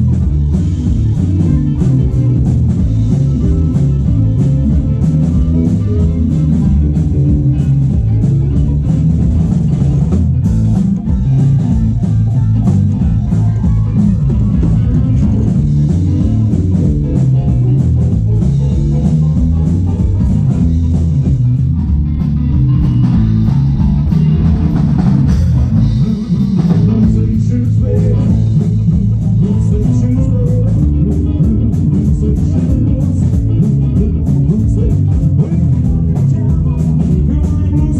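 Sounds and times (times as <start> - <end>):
drum kit beat: 0.0 - 37.9
keyboard playing: 0.0 - 37.9
rock band music: 0.0 - 37.9.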